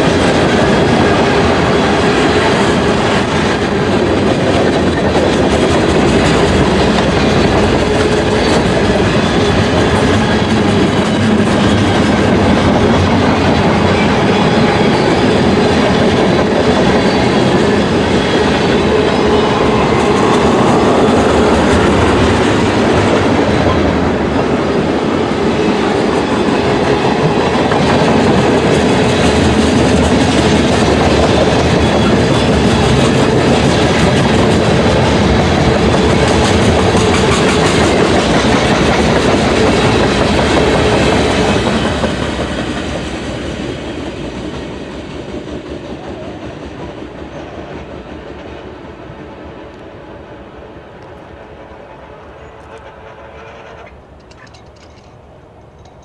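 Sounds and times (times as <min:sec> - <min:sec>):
steel train wheels on rail: 0:00.0 - 0:56.0.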